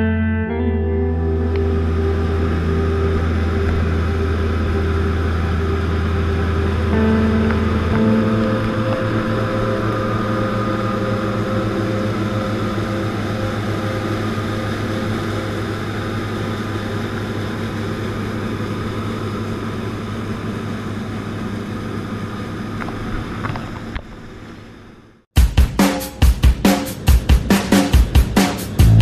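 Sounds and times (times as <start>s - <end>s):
combine harvester machinery drone: 0.0s - 25.2s.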